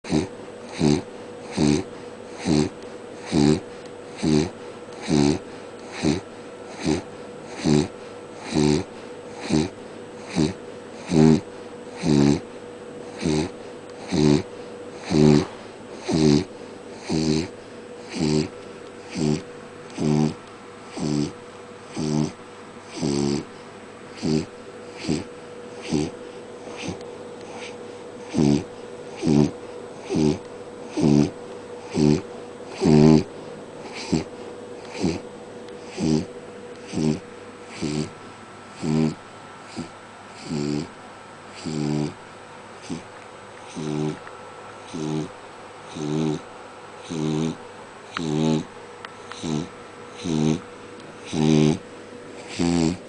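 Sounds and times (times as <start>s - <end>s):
dog snoring: 0.0s - 42.2s, 42.8s - 53.0s.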